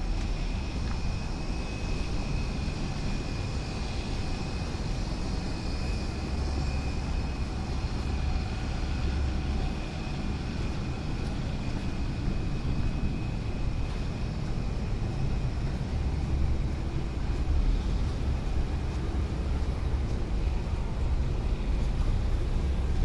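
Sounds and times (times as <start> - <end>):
low street rumble: 0.0 - 23.0.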